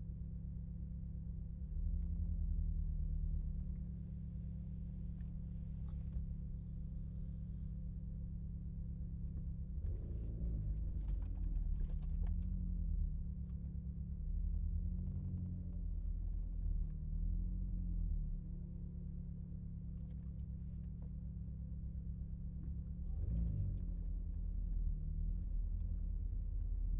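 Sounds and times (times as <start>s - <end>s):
car engine droning: 0.7s - 26.9s.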